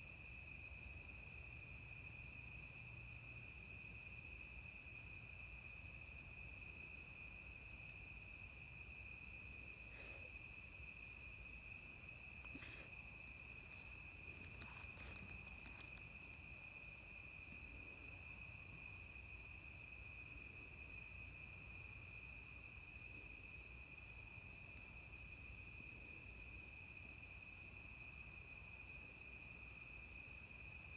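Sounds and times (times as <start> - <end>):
crickets trilling: 0.0 - 30.9.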